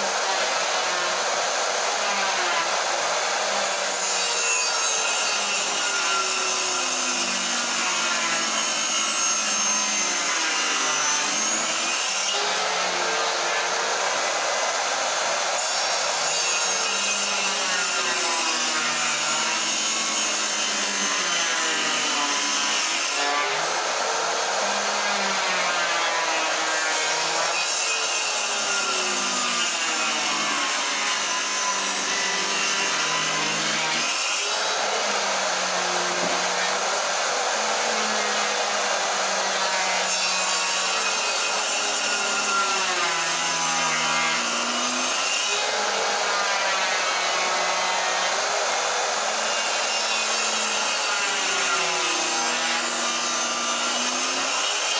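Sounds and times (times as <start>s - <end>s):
table saw cutting wood: 0.0s - 54.9s.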